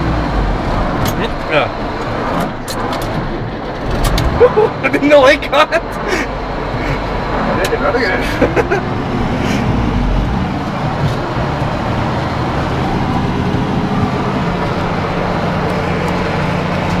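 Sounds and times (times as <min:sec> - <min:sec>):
heavy engine drone: 0:00.0 - 0:17.0.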